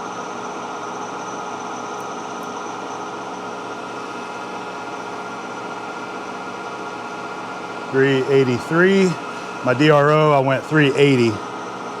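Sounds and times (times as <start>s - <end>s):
shop machinery hum: 0.0s - 12.0s.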